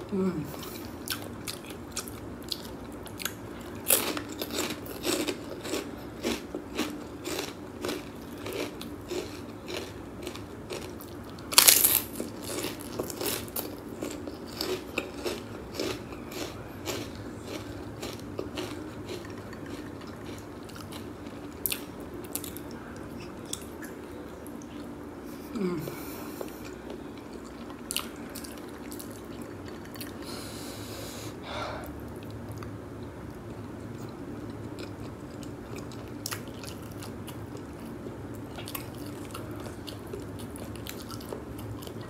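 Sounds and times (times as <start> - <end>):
person chewing and crunching: 0.5 - 24.9, 26.0 - 30.4, 33.5 - 42.0.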